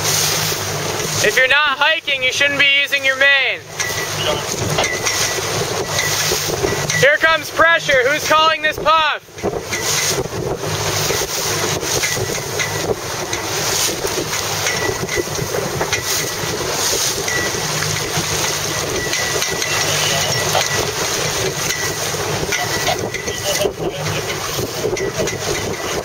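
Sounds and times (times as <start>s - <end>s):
water rushing against boat hull: 0.0s - 26.0s
wind buffeting microphone: 3.6s - 26.0s.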